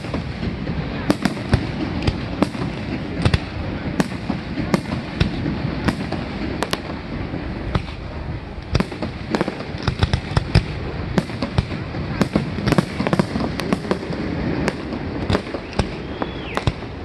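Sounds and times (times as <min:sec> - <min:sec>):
continuous low rumble: 0:00.0 - 0:17.0
firework shells bursting: 0:00.0 - 0:17.0.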